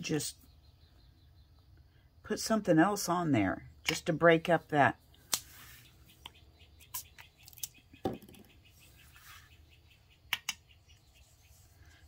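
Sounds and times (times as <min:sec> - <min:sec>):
faint songbird chirping: 0:00.0 - 0:12.0.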